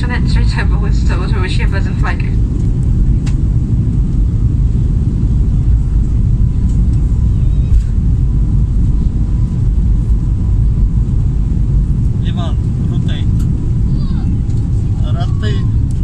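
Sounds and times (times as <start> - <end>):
faint whine: 0.0 - 16.0
jet engines low rumble: 0.0 - 16.0.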